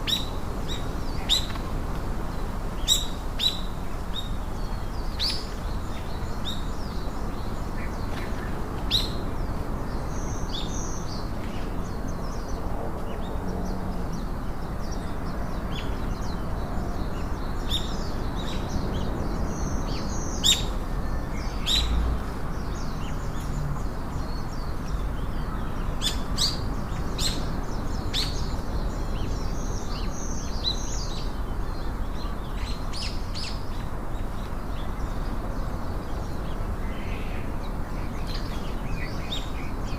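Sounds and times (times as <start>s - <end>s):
birds chirping and calling: 0.0s - 1.7s, 2.7s - 39.9s
steady background hiss: 0.0s - 39.9s.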